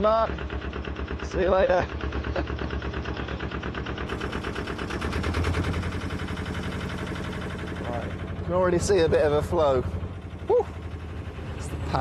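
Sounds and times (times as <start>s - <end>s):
boat diesel engine chugging: 0.0s - 12.0s.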